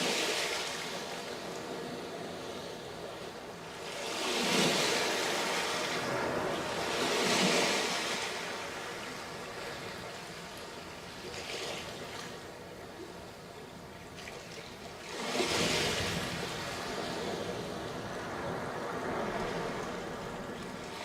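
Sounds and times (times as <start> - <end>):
hiss of receding water: 0.0 - 21.0
waves breaking on a beach: 0.0 - 21.0.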